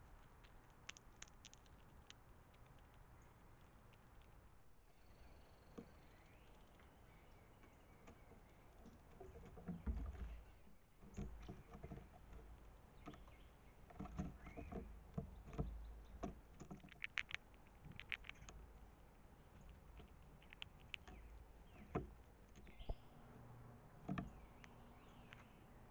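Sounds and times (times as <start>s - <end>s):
claws tapping and scratching on wood: 0.0s - 4.9s, 5.6s - 23.0s, 23.9s - 25.9s.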